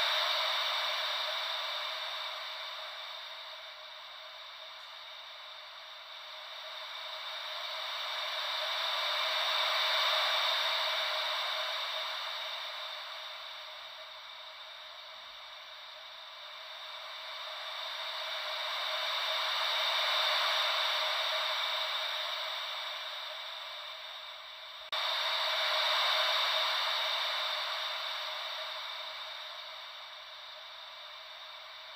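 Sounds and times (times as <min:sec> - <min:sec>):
ocean wave white noise: 0:00.0 - 0:31.9.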